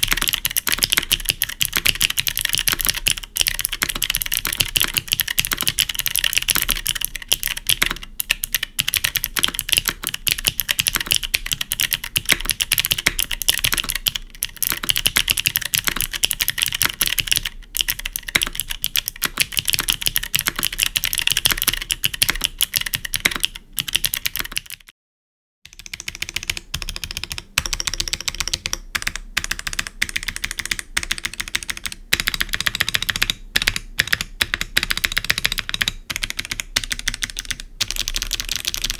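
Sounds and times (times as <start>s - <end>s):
clicky mechanical keyboard typing: 0.0s - 24.9s, 25.7s - 38.9s.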